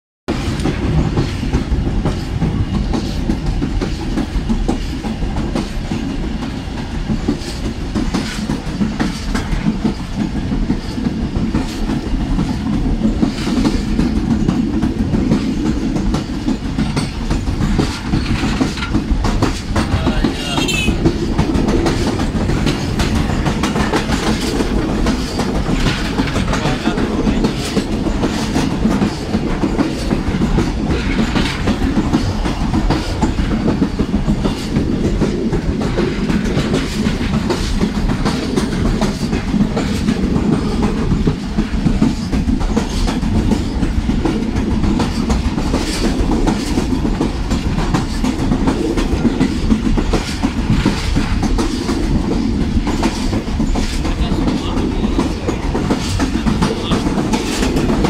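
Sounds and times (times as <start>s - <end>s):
train wheels clacking over rail joints: 0.3s - 58.0s.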